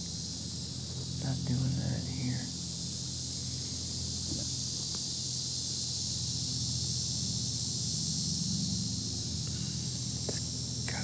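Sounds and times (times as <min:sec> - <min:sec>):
insects droning: 0:00.0 - 0:11.0
low steady hum: 0:00.0 - 0:11.0.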